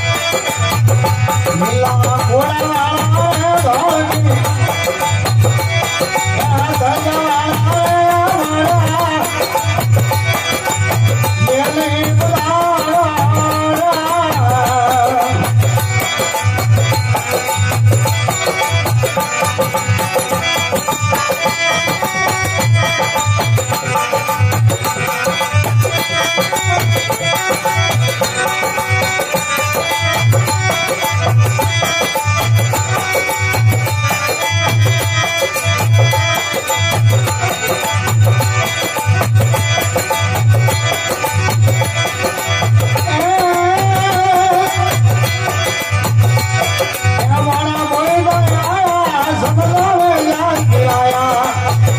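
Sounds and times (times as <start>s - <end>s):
steady drum beat: 0.0s - 51.9s.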